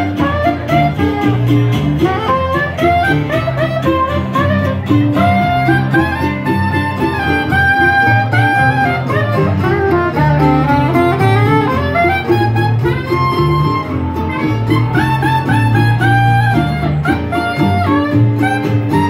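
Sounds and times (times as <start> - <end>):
soprano saxophone melody: 0.0 - 19.0
strummed acoustic guitars: 0.0 - 19.0
walking upright bass: 0.0 - 19.0.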